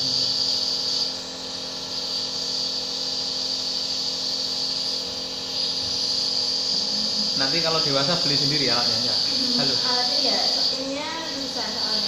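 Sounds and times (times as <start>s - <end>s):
nebulizer motor hum and hiss: 0.0s - 12.0s.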